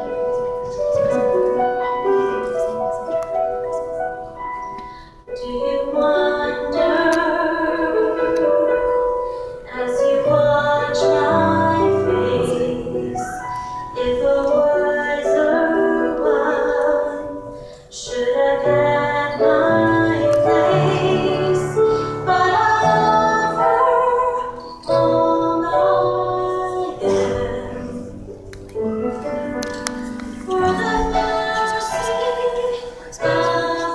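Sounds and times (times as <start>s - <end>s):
instrumental accompaniment: 0.0s - 33.9s
woman singing: 5.3s - 33.9s.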